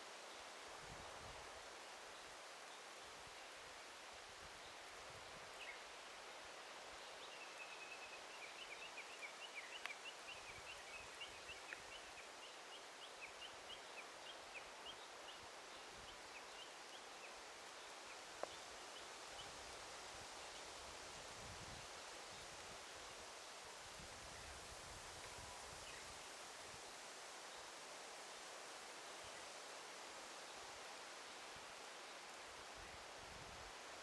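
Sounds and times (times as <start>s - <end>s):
forest ambience hiss: 0.0s - 34.0s.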